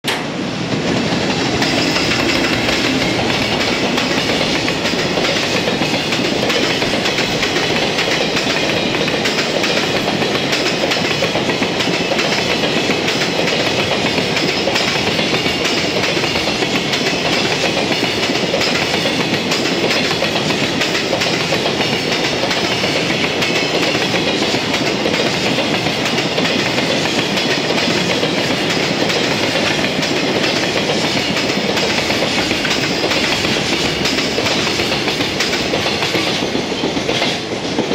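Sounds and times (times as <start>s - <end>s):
train wheels rolling on rails: 0.0s - 37.9s.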